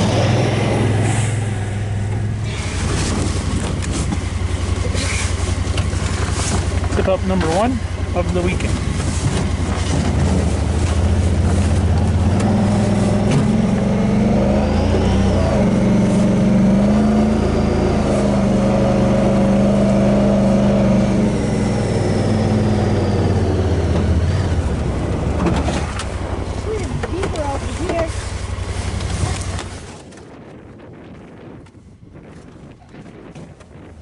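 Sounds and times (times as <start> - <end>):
utility vehicle engine driving: 0.0 - 34.0.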